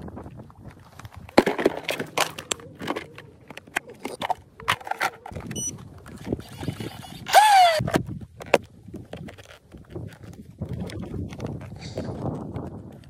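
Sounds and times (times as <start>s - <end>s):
plastic hull on gravel: 0.0s - 13.0s.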